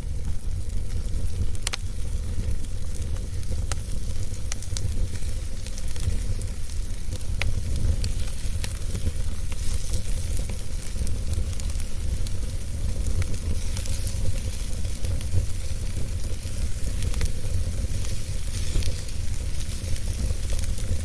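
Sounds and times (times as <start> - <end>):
flames rumbling and hissing: 0.0 - 21.0
wood fire crackling and popping: 0.0 - 21.0.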